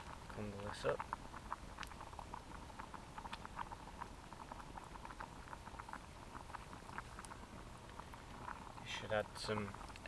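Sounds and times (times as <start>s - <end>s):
water boiling in metal cup: 0.0s - 10.0s.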